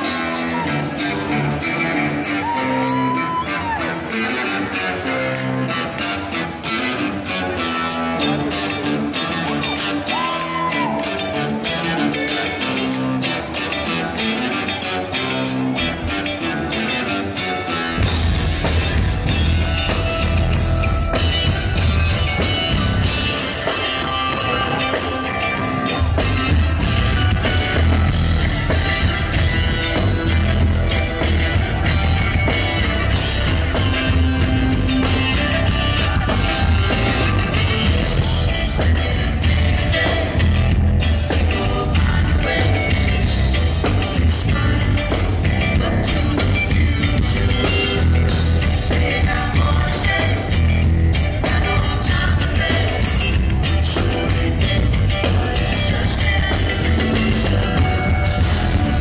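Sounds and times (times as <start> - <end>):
electric guitar playing: 0.0 - 59.0
funk rock band playing: 0.0 - 59.0.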